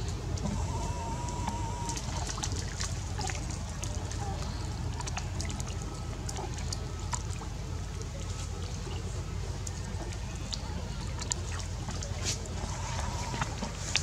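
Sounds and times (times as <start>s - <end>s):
shallow water splashing: 0.0s - 14.0s
steady low rumble: 0.0s - 14.0s.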